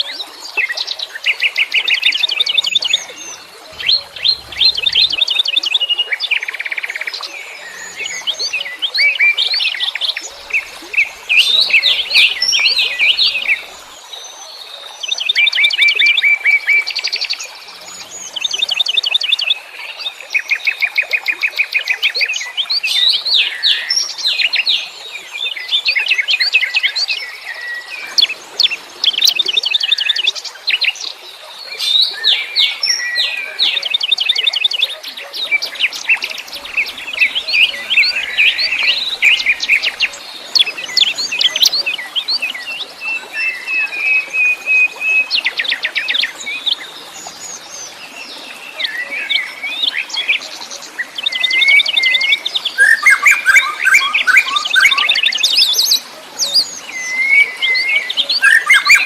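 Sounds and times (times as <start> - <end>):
songbirds singing and trilling: 0.0 - 59.0.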